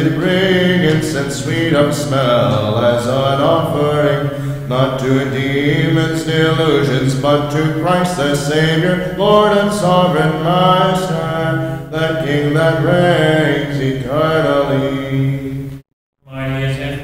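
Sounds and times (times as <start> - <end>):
men singing chant: 0.0 - 15.6.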